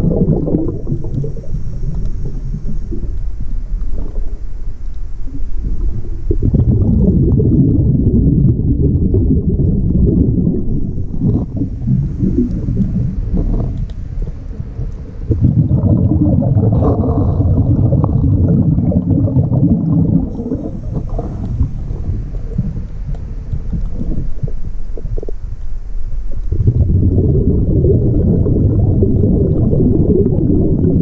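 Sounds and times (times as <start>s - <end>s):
faint high hiss: 0.0s - 31.0s
underwater air bubbles rumbling: 0.0s - 31.0s.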